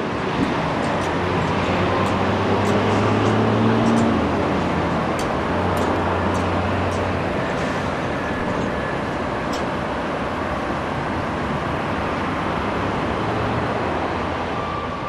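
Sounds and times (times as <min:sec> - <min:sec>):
city traffic: 0:00.0 - 0:15.0
tram running on street track: 0:00.0 - 0:15.0.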